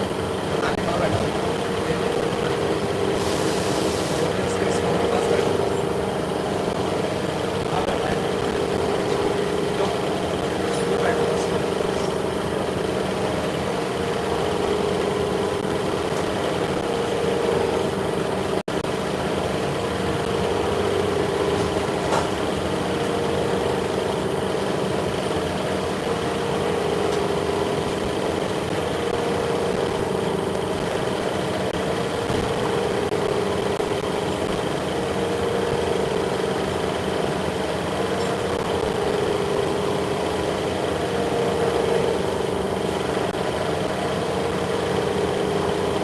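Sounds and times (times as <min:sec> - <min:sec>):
constant tones: 0:00.0 - 0:46.0
machinery humming: 0:00.0 - 0:46.0.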